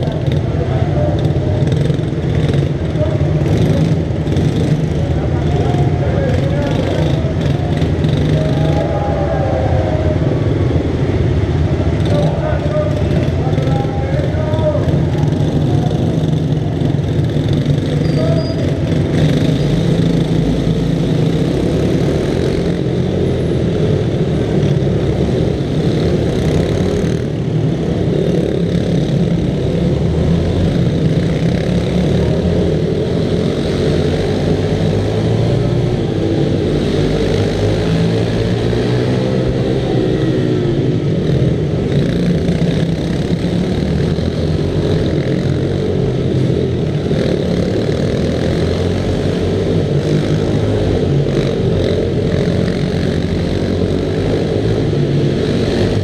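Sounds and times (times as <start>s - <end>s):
minibike engine running hard: 0.0s - 56.0s
other minibike engines: 0.0s - 56.0s.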